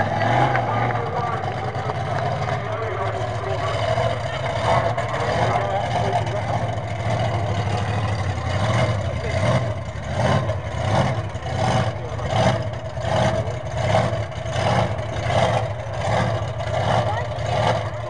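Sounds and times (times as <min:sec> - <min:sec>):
monster truck engine surging: 0:00.0 - 0:18.0.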